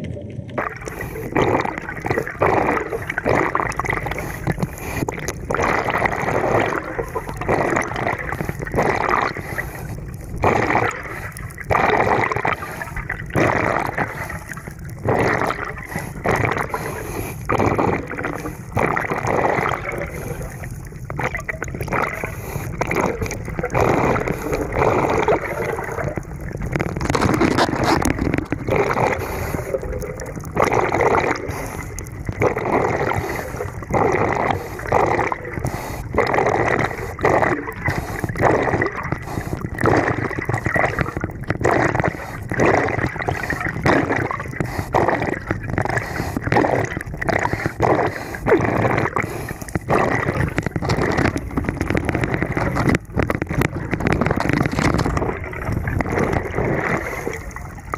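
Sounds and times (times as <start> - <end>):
underwater bubbles gurgling: 0.0 - 57.9.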